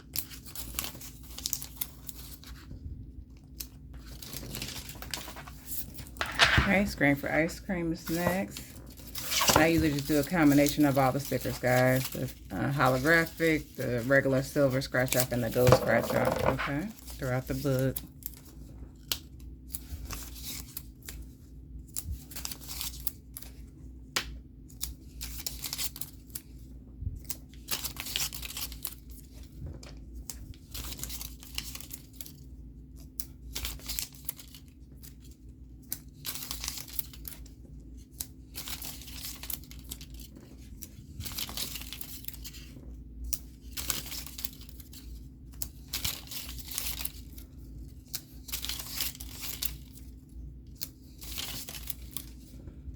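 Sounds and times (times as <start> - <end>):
soft paper handling: 0.0 - 52.9.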